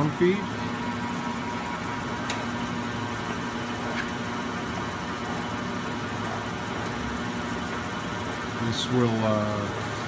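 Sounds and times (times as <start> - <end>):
surface grinder machine hum: 0.0 - 10.0.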